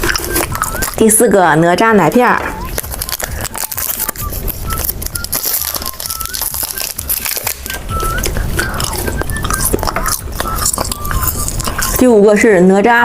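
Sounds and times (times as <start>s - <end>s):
candy packaging crinkling: 0.0s - 12.2s
background music: 0.0s - 13.0s.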